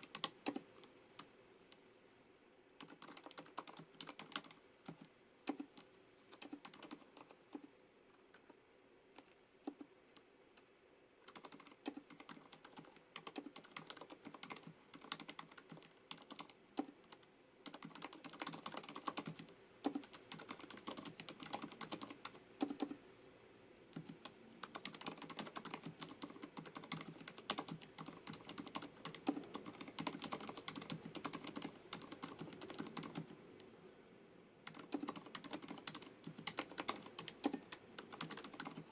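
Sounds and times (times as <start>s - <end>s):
typing on mechanical keyboard: 0.0s - 1.3s, 2.8s - 7.7s, 9.2s - 9.9s, 11.2s - 23.0s, 24.0s - 33.4s, 34.6s - 38.9s.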